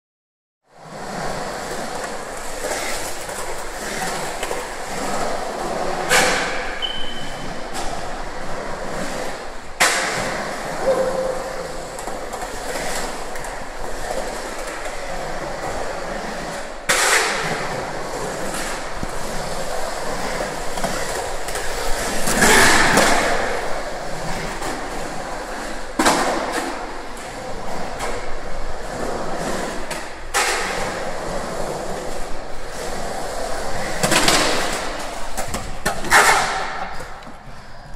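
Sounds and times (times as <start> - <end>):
skateboard wheels rolling on concrete: 0.7 - 37.9
skateboard clacking: 0.8 - 37.9.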